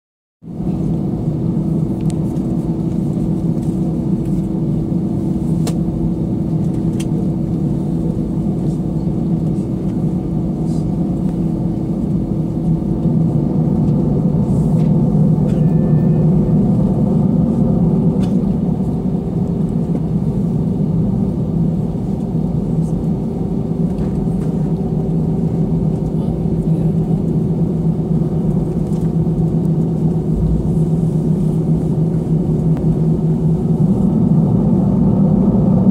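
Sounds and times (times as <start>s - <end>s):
aircraft engine rumble: 0.4s - 35.9s.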